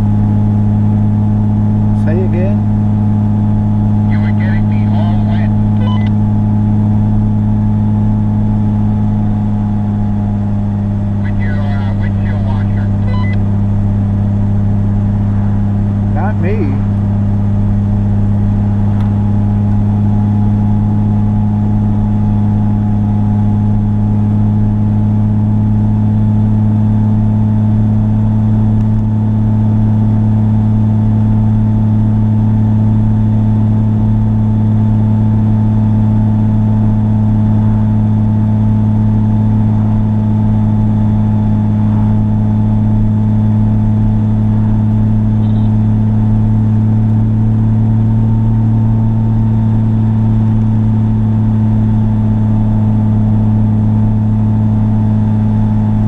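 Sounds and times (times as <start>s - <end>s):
car engine drone: 0.0s - 56.0s
road noise: 0.0s - 56.0s.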